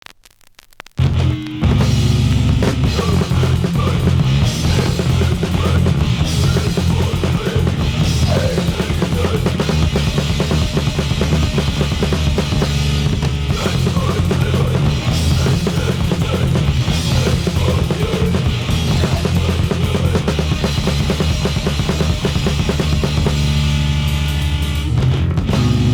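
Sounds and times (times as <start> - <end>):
bass and guitar: 1.0 - 25.9
drum kit pounding: 1.0 - 25.9.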